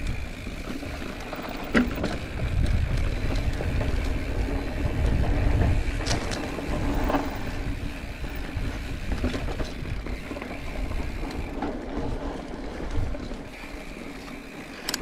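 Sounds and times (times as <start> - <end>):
bike clicks and rattles: 0.0 - 15.0
bike tyre noise on dirt: 0.0 - 15.0
wind rumbling on microphone: 0.0 - 15.0.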